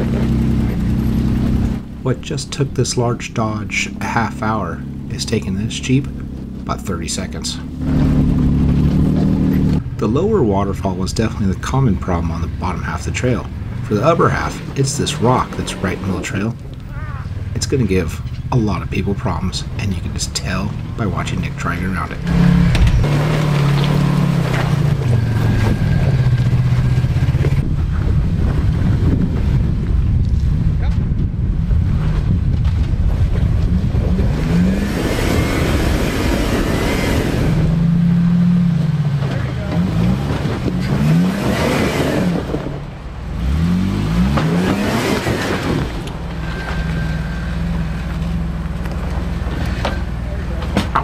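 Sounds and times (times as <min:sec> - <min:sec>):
off-road vehicle engine at low revs: 0:00.0 - 0:51.0.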